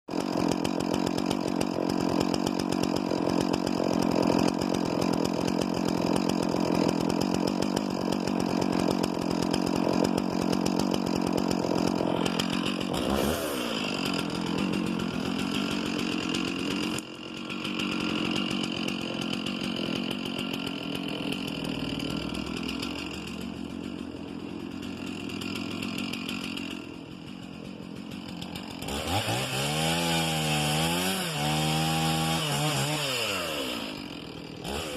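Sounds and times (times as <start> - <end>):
chainsaw cutting into tree: 0.1 - 34.9.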